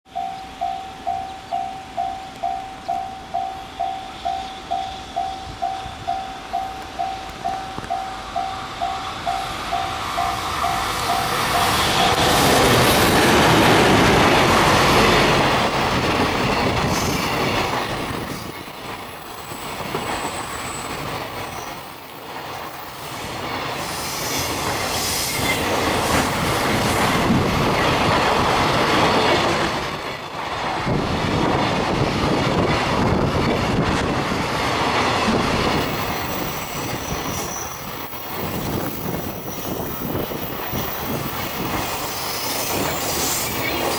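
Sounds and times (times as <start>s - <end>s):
freight train wheels rumbling: 0.1s - 43.9s
locomotive passing: 0.2s - 43.9s.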